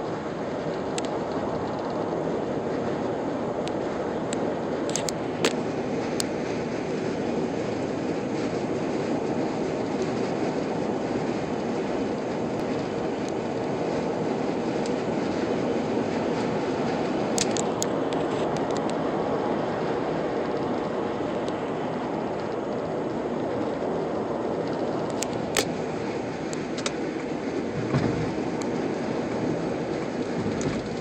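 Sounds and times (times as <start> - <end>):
tyre and wind noise in car: 0.0 - 31.0.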